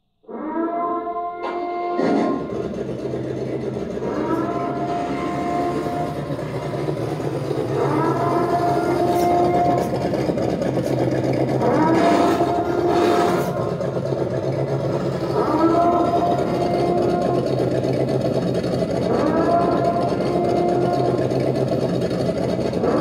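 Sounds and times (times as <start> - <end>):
simulated engine hum: 0.0 - 23.0
multi-tone horn blasts: 0.3 - 23.0.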